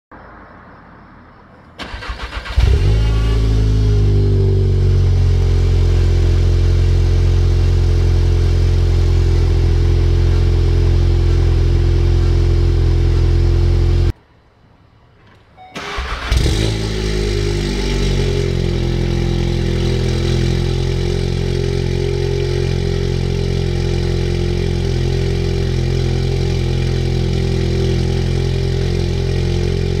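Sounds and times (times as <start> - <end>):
car engine idling: 1.5 - 14.2, 14.9 - 30.0
car engine cranking and starting: 1.6 - 14.1, 15.2 - 30.0.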